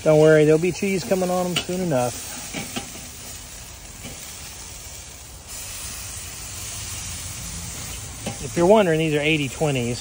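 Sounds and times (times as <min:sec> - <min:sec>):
burger patties sizzling on grill: 0:00.0 - 0:10.0.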